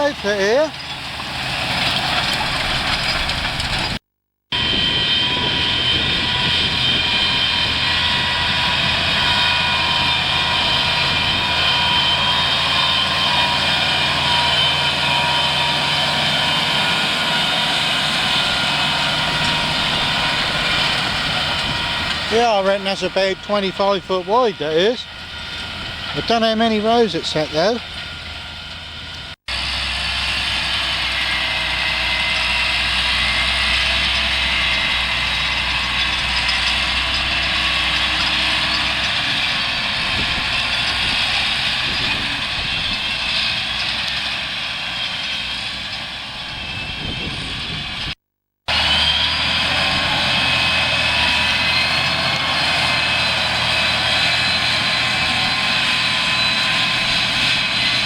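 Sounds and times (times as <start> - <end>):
farm machinery engine drone: 0.0 - 58.0
machinery whine: 0.0 - 58.0.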